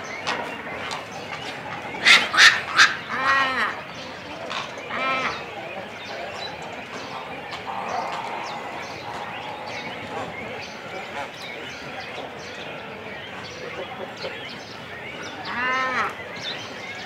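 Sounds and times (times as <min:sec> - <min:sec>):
birds chattering: 0:00.0 - 0:17.0
cormorant calls: 0:00.0 - 0:17.0.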